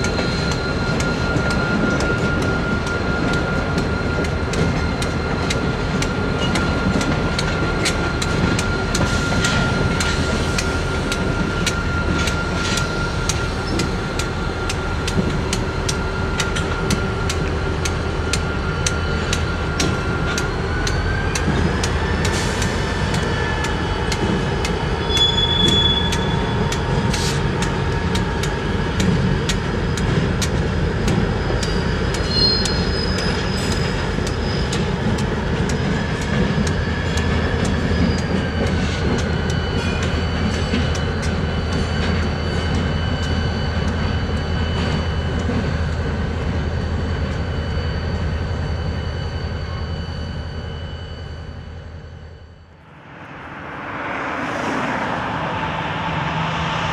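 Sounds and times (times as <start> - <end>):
diesel locomotive engines: 0.0 - 56.9
high whine: 0.0 - 56.9.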